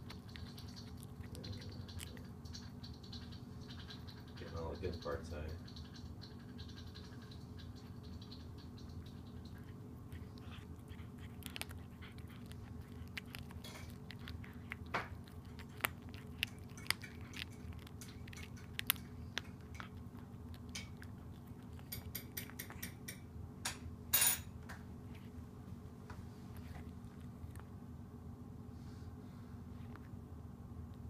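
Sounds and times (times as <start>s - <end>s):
cat chewing and crunching bones: 0.0s - 31.0s.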